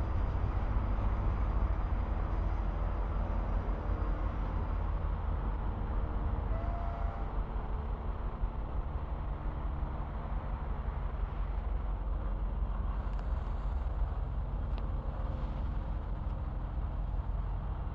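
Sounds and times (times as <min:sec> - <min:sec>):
vehicle engine rumble: 0:00.0 - 0:17.9.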